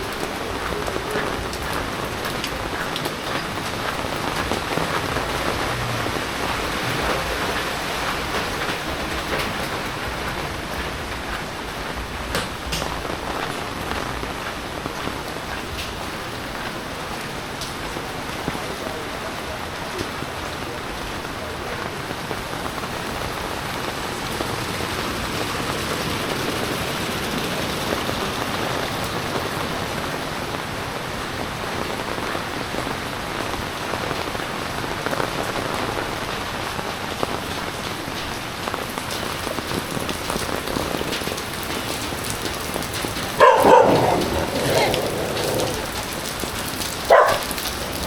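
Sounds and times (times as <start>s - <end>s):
heavy rain pattering: 0.0s - 48.0s.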